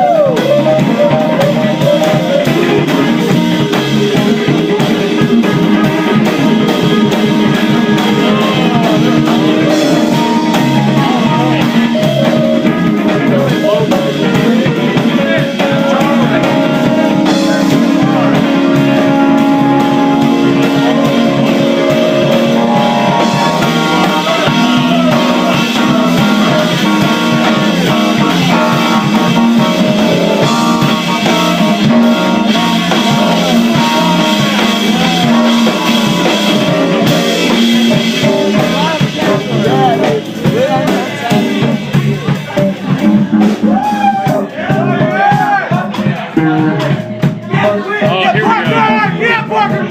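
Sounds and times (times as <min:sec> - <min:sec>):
live rock band playing: 0:00.0 - 0:49.9
person singing: 0:00.0 - 0:49.9.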